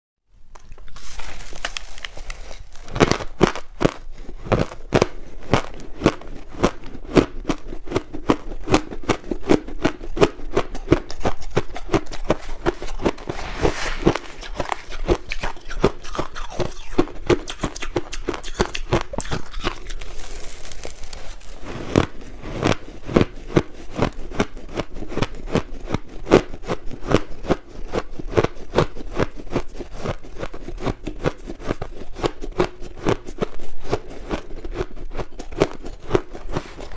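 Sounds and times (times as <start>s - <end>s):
crushed ice being chewed: 0.5s - 36.9s.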